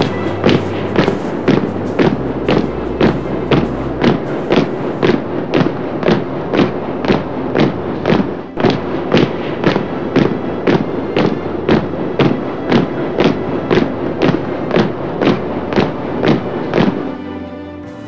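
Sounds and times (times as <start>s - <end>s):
marching feet stamping: 0.0s - 17.0s.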